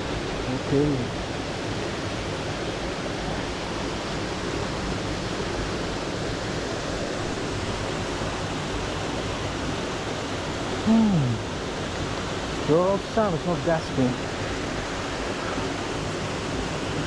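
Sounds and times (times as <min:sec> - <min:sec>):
waterfall roar: 0:00.0 - 0:17.0.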